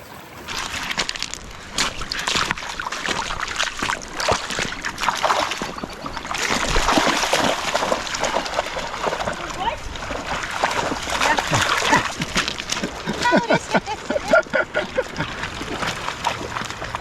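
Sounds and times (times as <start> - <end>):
dog splashing through creek water: 0.1 - 17.0.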